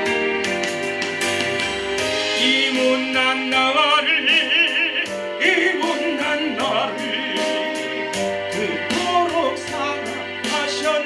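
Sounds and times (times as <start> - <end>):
gospel instrumental music: 0.0 - 11.0.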